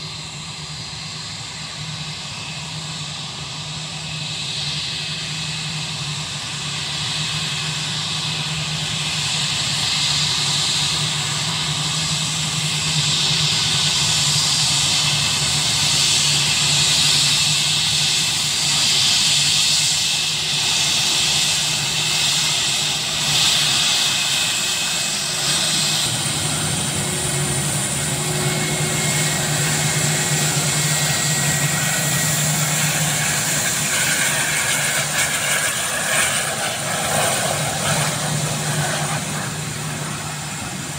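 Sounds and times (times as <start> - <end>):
jet engines whining at taxi power: 0.0 - 40.9.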